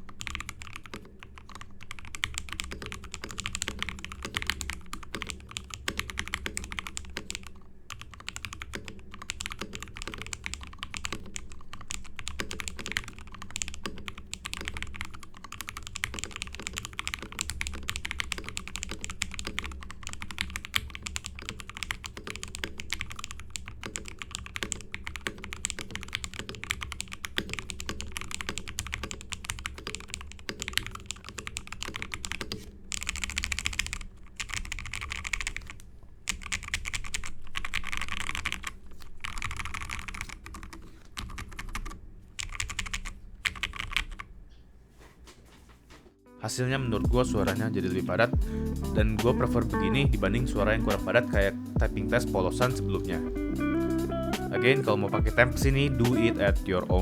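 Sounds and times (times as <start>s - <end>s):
mechanical keyboard typing: 0.0s - 44.3s, 47.0s - 57.0s.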